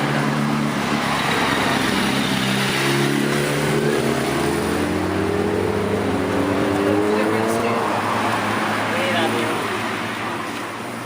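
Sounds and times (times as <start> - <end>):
steady rushing noise: 0.0 - 11.0
vehicle engine running: 0.0 - 11.0.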